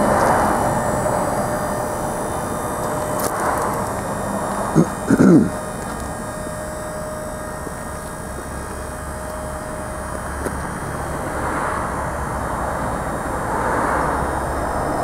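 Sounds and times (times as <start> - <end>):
hydraulic pump motor running: 0.0 - 15.0
thin steady whine: 0.0 - 15.0.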